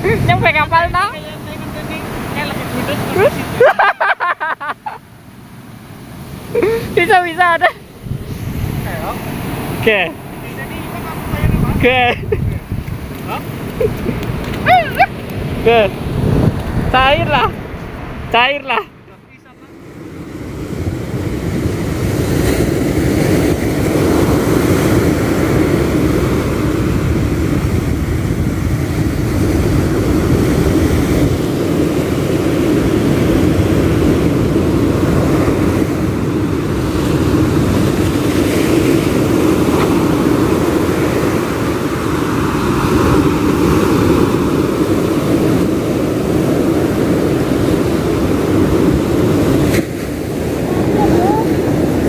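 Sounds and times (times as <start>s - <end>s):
wind buffeting microphone: 0.0s - 3.8s, 5.5s - 19.1s, 19.7s - 52.0s
surf breaking: 5.7s - 52.0s.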